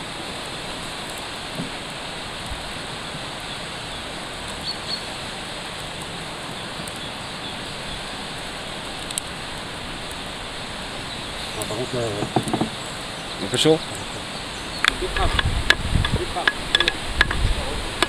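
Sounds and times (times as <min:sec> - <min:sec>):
bacon fat sizzling in embers: 0:00.0 - 0:18.0
wood fire hissing and crackling: 0:00.0 - 0:18.0.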